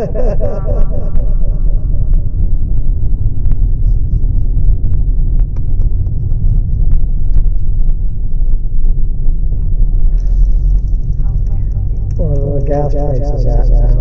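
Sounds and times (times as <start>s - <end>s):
car road rumble from inside: 2.4s - 14.0s.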